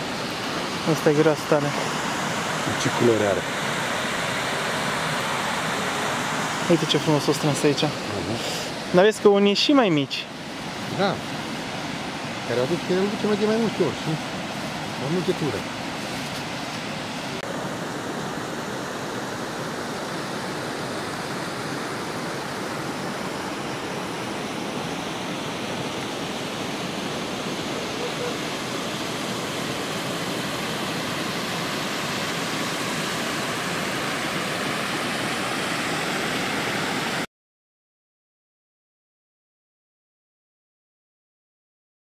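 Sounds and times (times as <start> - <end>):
water rushing: 0.0 - 37.3.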